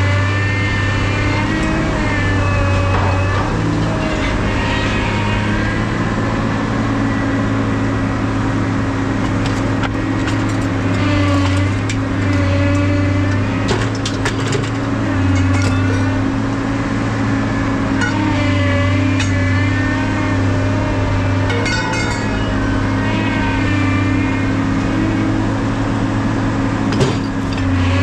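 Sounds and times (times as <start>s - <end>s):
engine running with low drone: 0.0s - 28.0s.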